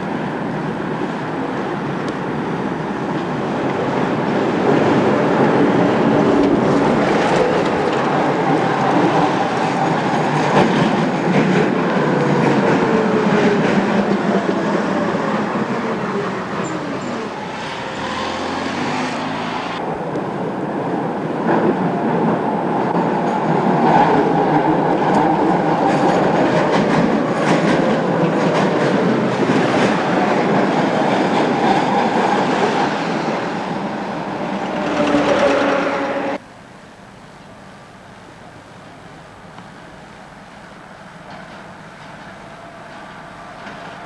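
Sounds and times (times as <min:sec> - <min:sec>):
wheels clicking over rail joints: 0:00.0 - 0:19.0, 0:19.8 - 0:36.0, 0:40.4 - 0:44.0
tram motor whine: 0:00.0 - 0:36.4
tram wheels rumbling on rail: 0:00.0 - 0:36.4, 0:39.5 - 0:44.0.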